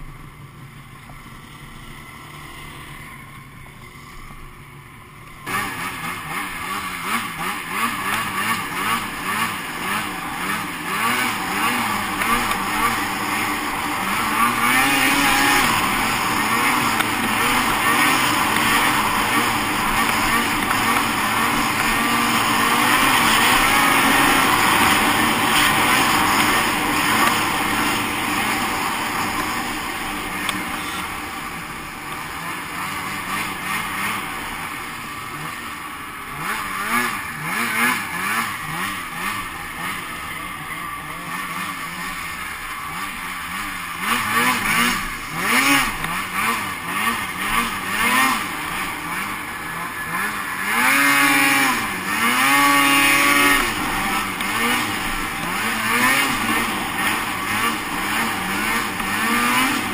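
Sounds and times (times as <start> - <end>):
snowmobile engines revving: 0.8 - 59.9.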